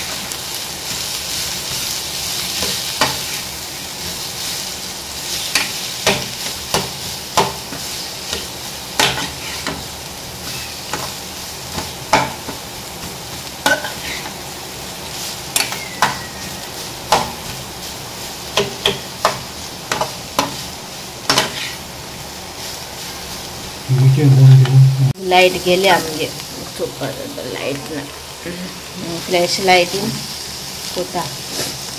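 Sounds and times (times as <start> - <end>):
food sizzling in hot oil: 0.0 - 23.9, 25.2 - 31.9.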